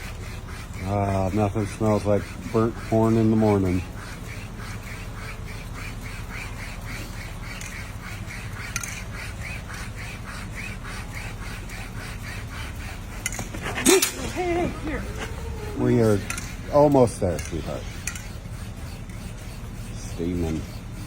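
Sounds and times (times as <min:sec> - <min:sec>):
wire saw rasping through horn: 0:00.0 - 0:21.0.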